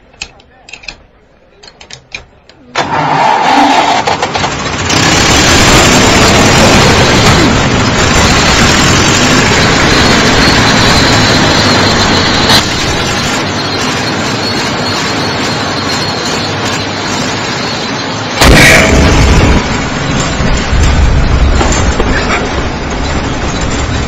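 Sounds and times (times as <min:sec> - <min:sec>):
road roller engine racket: 0:00.0 - 0:24.0.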